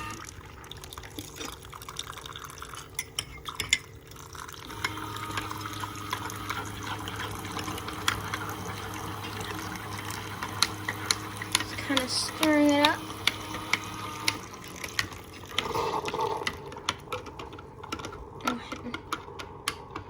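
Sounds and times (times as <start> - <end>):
liquid filling a mug: 0.0 - 19.5
coffee maker humming: 0.0 - 20.0.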